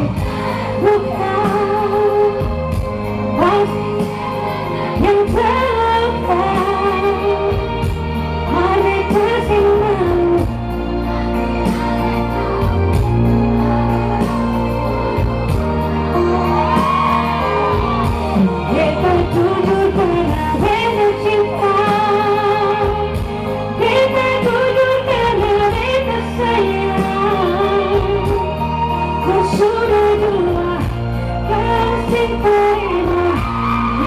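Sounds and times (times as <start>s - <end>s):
instrumental accompaniment with bass: 0.0s - 34.0s
woman singing pop song live: 0.0s - 34.0s.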